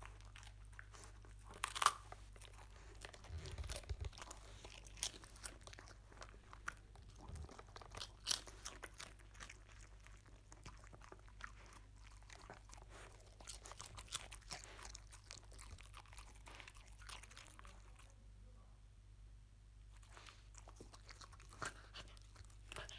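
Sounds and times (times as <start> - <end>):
dog crunching puffed rice: 0.0 - 18.2, 19.9 - 22.9.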